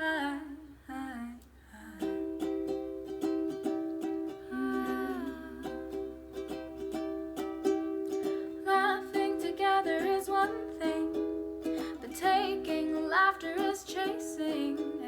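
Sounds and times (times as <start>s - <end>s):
person singing: 0.0s - 15.0s
ukulele strumming: 1.8s - 15.0s.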